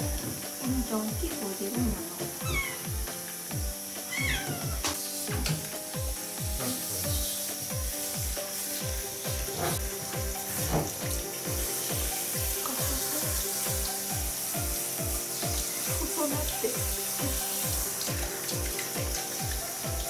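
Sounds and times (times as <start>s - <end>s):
background music with steady beat: 0.0s - 20.0s
water spraying from shower head: 0.0s - 20.0s.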